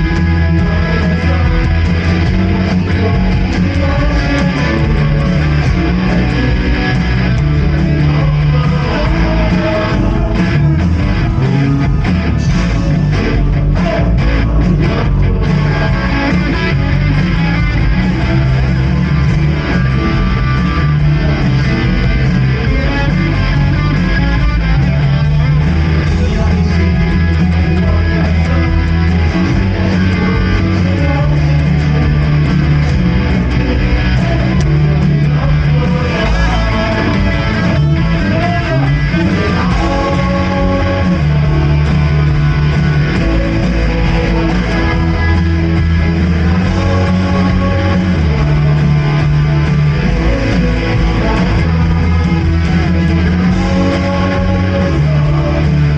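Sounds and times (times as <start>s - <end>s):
guitar: 0.0s - 55.9s
live band playing worship song: 0.0s - 55.9s.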